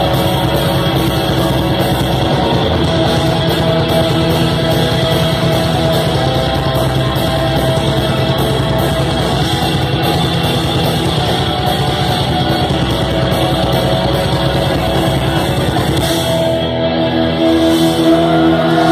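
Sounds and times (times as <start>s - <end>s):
fast dense drumming: 0.0s - 16.7s
distorted electric guitars: 0.0s - 18.9s.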